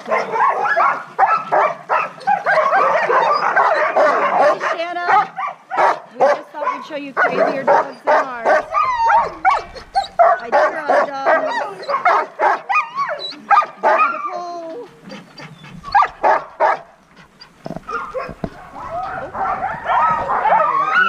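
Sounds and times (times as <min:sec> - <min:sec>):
dogs barking yipping and whining: 0:00.0 - 0:21.0.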